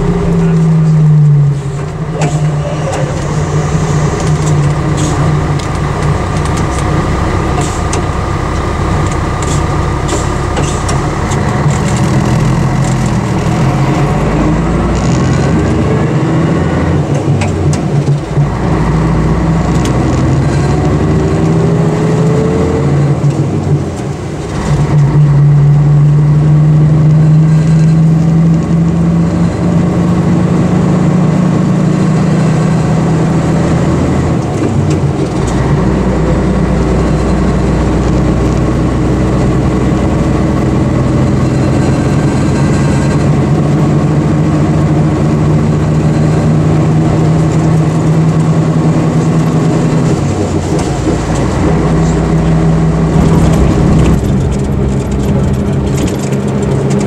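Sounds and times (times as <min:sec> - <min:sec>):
bus diesel engine running: 0:00.0 - 0:57.0
rising engine whine: 0:00.0 - 0:57.0.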